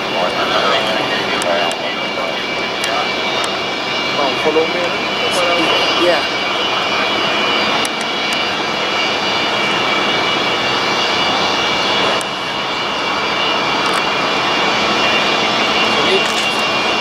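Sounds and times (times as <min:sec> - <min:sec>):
high whining tones: 0:00.0 - 0:17.0
jet engines rushing: 0:00.0 - 0:17.0.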